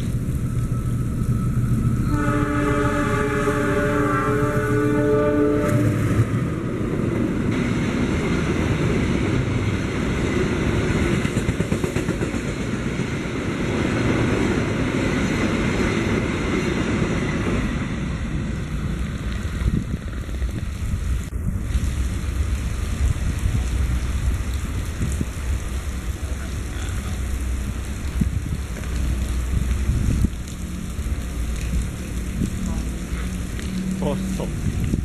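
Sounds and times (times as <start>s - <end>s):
rain hissing: 0.0s - 11.8s, 13.0s - 35.0s
freight train rumbling past: 0.0s - 35.0s.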